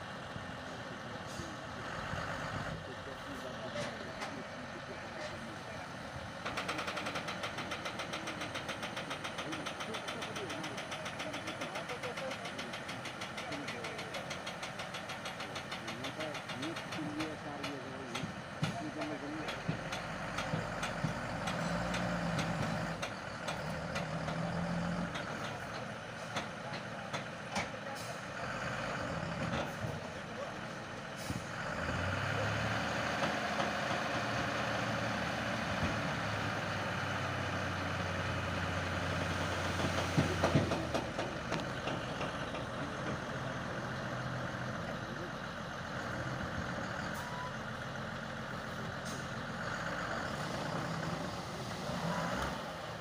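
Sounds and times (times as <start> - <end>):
diesel truck engine running: 0.0 - 53.0.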